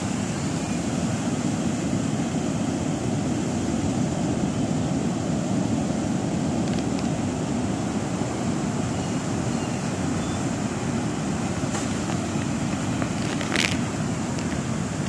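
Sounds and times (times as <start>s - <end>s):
surf rumbling on stony beach: 0.0s - 15.0s.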